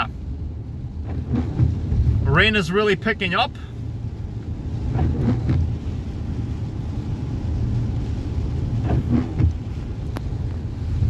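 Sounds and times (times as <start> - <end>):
car engine rumble: 0.0 - 11.0
rain hiss: 0.0 - 11.0
tyres on wet road: 0.0 - 11.0.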